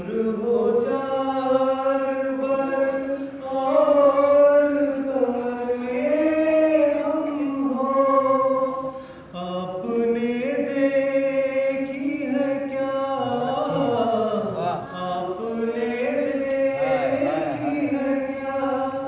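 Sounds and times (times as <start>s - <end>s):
man chanting a lament: 0.0s - 19.0s.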